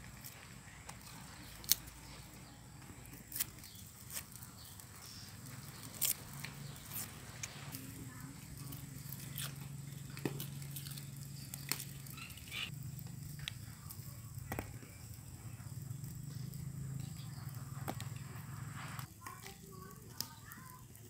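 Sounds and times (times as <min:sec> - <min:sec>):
steady low hum: 0:00.0 - 0:19.1.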